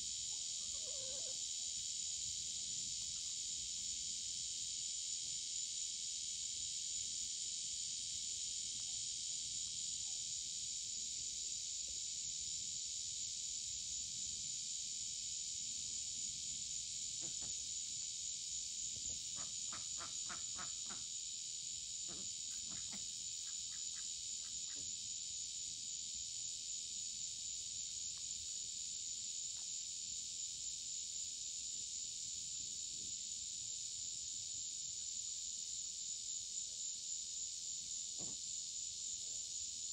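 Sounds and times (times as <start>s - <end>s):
crickets and night insects: 0.0s - 39.9s.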